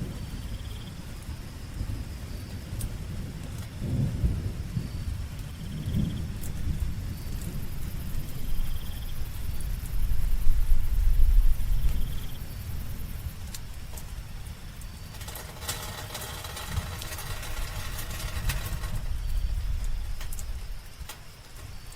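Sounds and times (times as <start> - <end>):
high insect trills: 0.0 - 21.9
low rolling thunder: 0.0 - 21.9
steady rain: 0.0 - 21.9.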